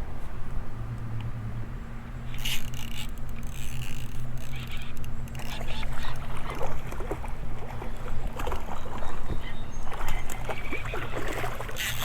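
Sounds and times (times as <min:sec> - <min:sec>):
river water splashing: 0:02.2 - 0:12.0.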